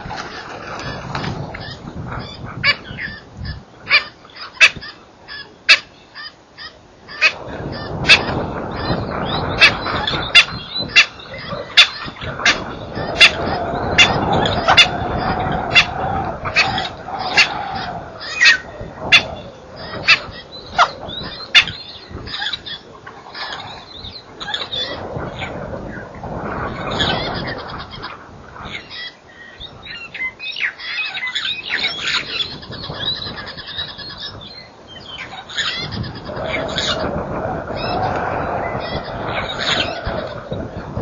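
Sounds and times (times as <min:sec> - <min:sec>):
birds calling: 0:00.0 - 0:41.0
drawn-out bird call: 0:00.0 - 0:41.0.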